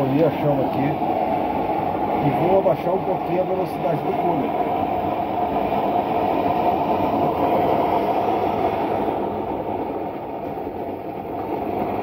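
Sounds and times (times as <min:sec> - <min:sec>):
stove burner and fan drone: 0:00.0 - 0:12.0.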